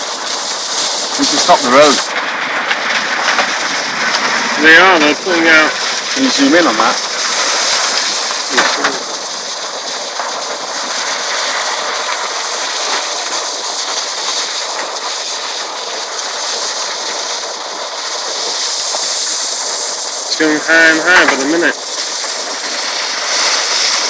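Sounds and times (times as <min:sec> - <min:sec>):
water gushing and spraying: 0:00.0 - 0:24.0.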